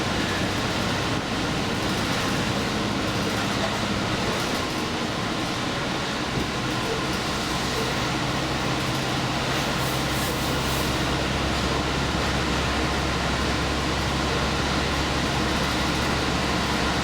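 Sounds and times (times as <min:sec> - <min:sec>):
train engine drone: 0:00.0 - 0:17.0
wheel and rail noise: 0:00.0 - 0:17.0.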